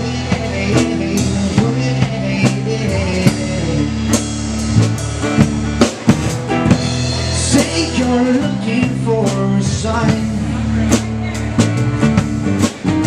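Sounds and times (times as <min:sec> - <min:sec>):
drum kit hits: 0:00.0 - 0:13.0
guitar and bass: 0:00.0 - 0:13.0.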